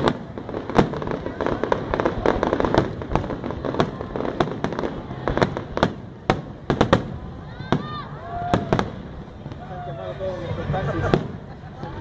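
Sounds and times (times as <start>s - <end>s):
fireworks bangs and crackles: 0.0s - 9.9s, 10.6s - 12.0s.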